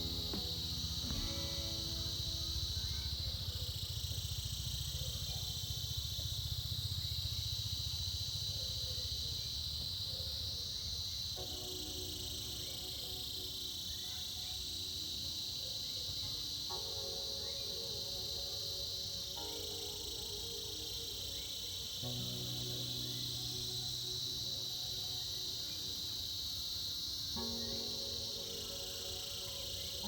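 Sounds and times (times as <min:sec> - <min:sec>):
cicadas chorus: 0:00.0 - 0:30.0.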